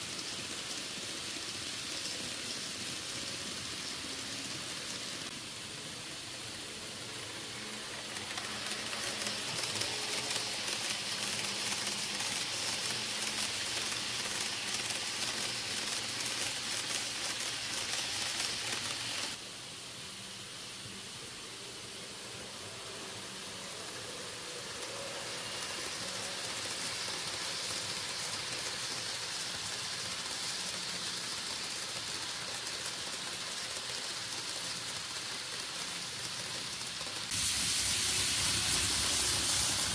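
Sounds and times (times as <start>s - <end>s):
model trains rolling on track: 0.0s - 39.9s.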